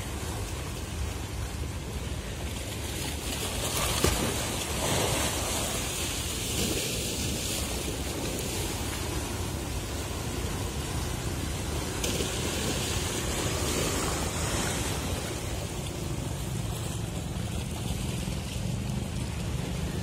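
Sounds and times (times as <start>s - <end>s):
harbour water washing: 0.0s - 20.0s
low steady rumble: 0.0s - 20.0s.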